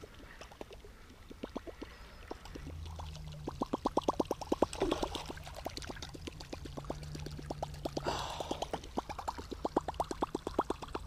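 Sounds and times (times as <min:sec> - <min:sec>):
water splash: 0:01.4 - 0:11.0.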